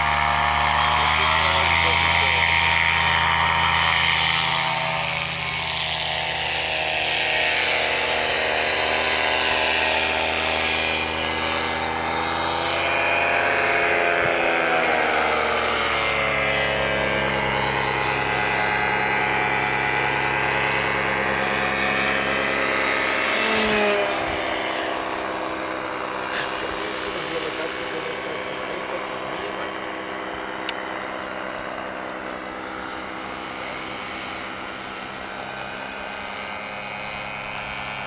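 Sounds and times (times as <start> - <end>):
model airplane motor and propeller: 0.0 - 38.0.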